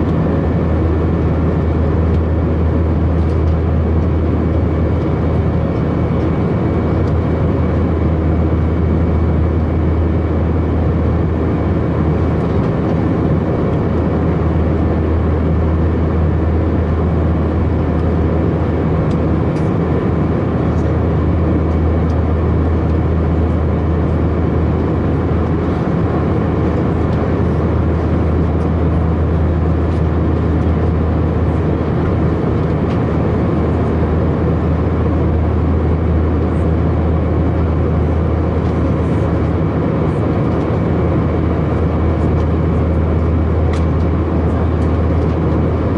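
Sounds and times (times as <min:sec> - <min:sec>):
jet engine hum and whine: 0:00.0 - 0:45.9.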